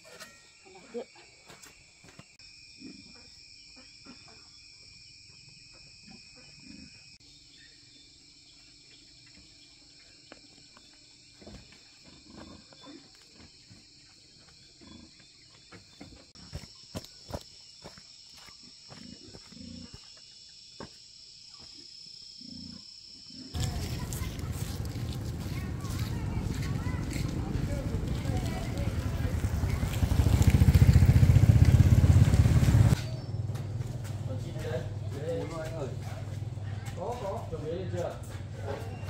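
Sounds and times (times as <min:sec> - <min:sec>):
high chorus of insects: 0:00.0 - 0:38.3.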